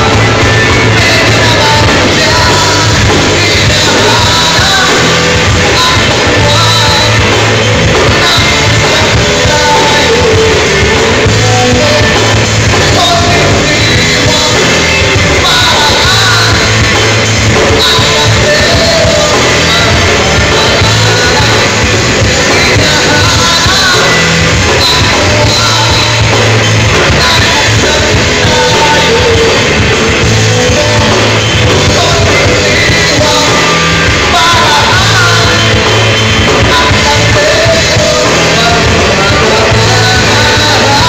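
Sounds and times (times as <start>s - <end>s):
electric guitar: 0.0s - 41.0s
man singing: 0.0s - 41.0s.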